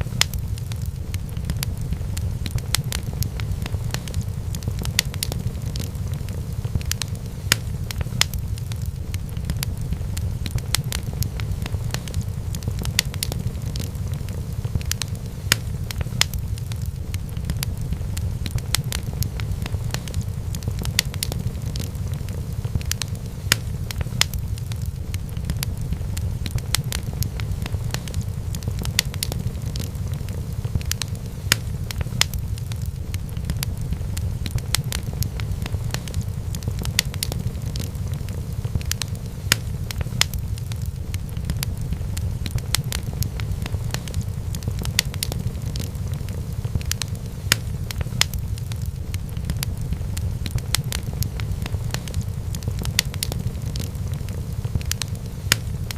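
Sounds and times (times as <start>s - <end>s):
low rumble of flames: 0.0s - 55.9s
wood fire crackling: 0.0s - 55.9s.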